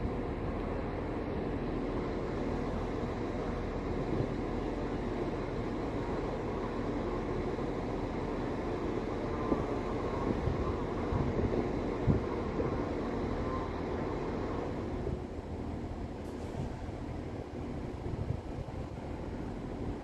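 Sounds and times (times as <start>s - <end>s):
diesel train engine and wheels: 0.0s - 20.0s.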